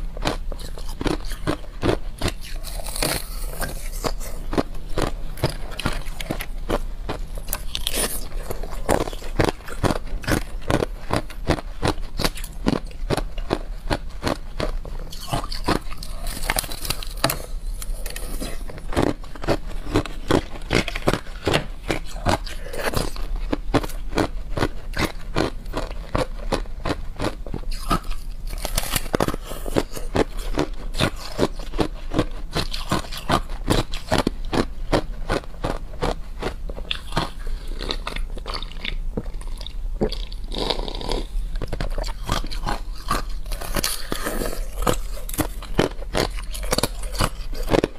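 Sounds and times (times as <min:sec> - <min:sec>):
teeth crunching ice: 0:00.0 - 0:47.9.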